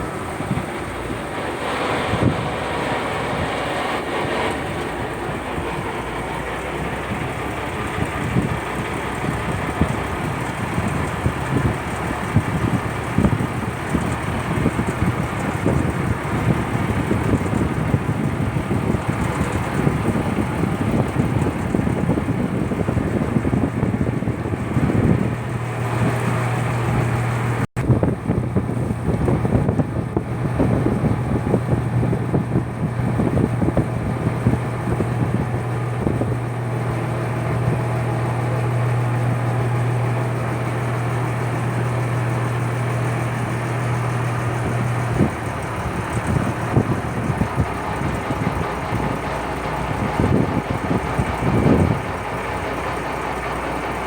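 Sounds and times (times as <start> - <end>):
boat engine running: 0.0 - 54.0
rough wind: 0.0 - 54.0
steady low hum: 0.0 - 54.0
water noise: 0.0 - 54.0.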